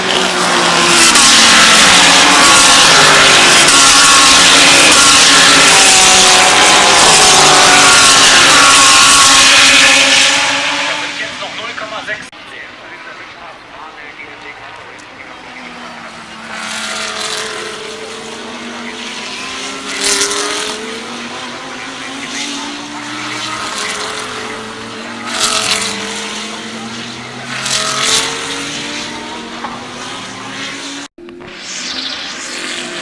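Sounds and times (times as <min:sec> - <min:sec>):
cars sweeping past: 0:00.0 - 0:33.0
race car engines at speed: 0:00.0 - 0:33.0.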